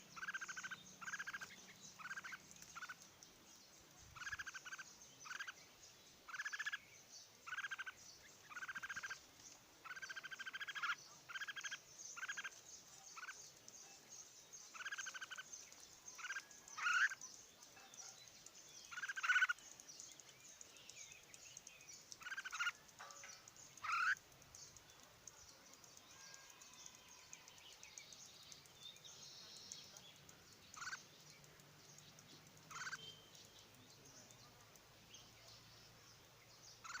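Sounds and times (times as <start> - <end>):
birds calling with buzzy chatter: 0.0 - 37.0.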